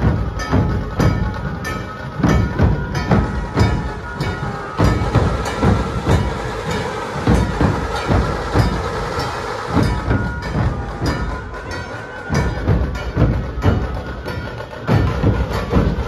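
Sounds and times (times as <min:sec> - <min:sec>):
barrel drums beaten in rhythm: 0:00.0 - 0:16.0
rattling snare drums: 0:00.0 - 0:16.0.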